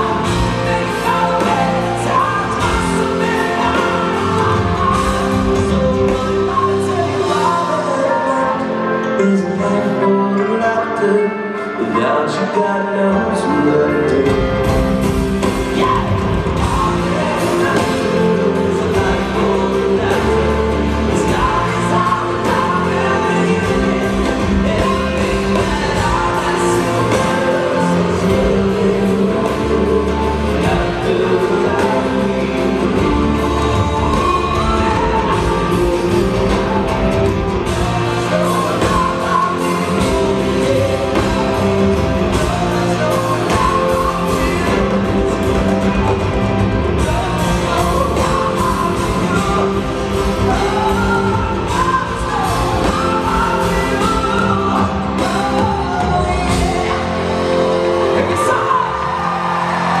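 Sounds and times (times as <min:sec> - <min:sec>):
live rock band playing: 0:00.0 - 1:00.0
man singing lead vocals: 0:00.0 - 1:00.0.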